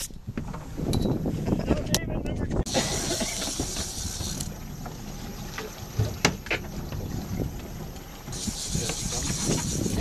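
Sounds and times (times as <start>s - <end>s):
boat engine rumbling: 0.4s - 10.0s.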